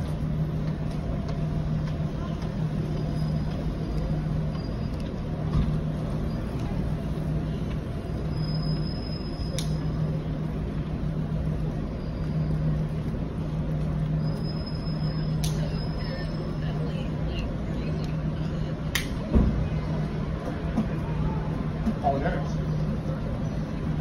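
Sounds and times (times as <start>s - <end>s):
idling vehicle engines: 0.0s - 24.0s
street hum: 0.0s - 24.0s.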